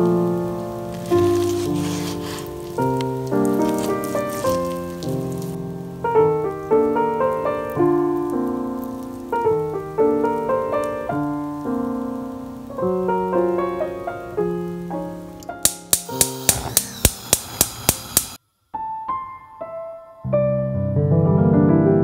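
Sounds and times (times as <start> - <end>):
piano music: 0.0 - 17.1, 18.7 - 22.0.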